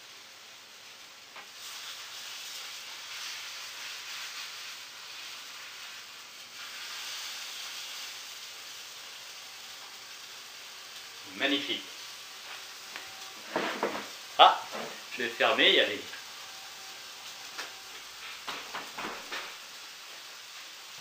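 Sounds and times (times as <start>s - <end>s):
fish fillet sizzling in a pan: 0.0s - 21.0s.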